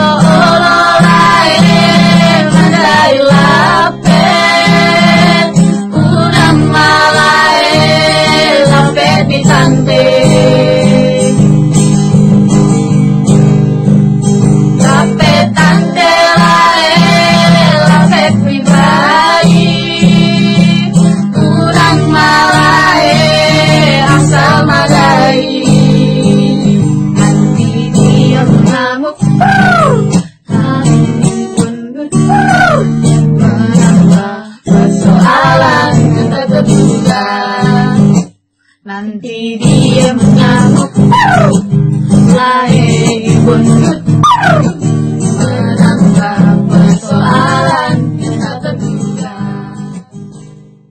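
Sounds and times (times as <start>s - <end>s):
women singing: 0.0s - 11.5s, 14.8s - 50.2s
acoustic guitar strumming: 0.0s - 38.5s, 39.6s - 50.9s.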